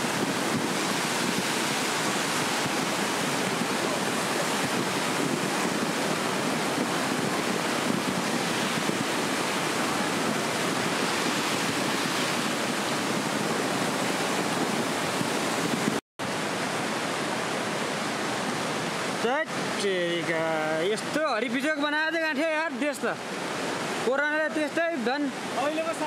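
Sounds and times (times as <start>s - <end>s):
roar of rushing floodwater: 0.0s - 26.0s.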